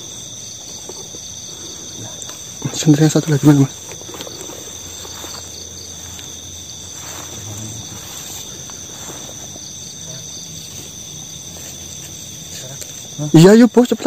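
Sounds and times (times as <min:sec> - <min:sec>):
rustling through grass: 0:00.0 - 0:13.5
crickets trilling: 0:00.0 - 0:14.0.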